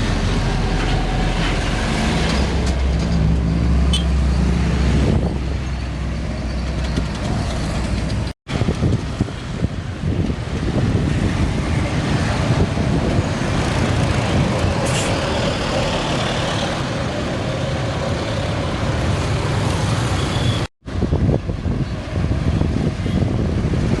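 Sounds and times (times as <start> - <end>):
heavy trucks passing: 0.0 - 24.0.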